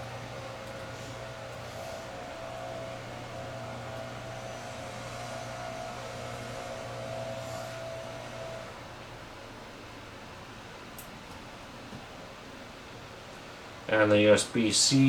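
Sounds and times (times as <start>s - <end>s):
faint whine: 0.0s - 15.0s
mechanical hum: 0.0s - 15.0s.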